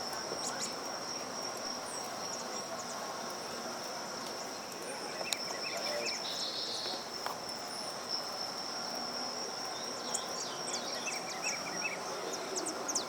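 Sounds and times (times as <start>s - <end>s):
birds chirping: 0.0s - 3.3s, 4.3s - 8.4s, 9.6s - 13.0s
high-pitched insect trill: 0.0s - 13.0s.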